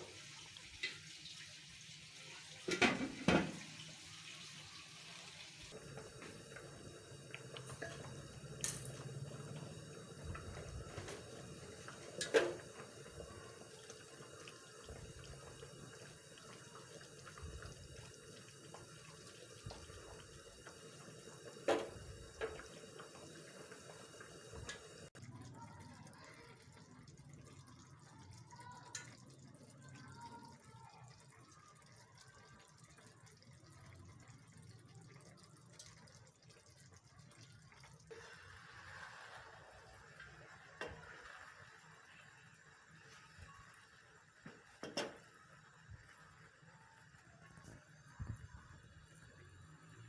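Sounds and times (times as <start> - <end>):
pot of water bubbling: 0.0 - 50.0.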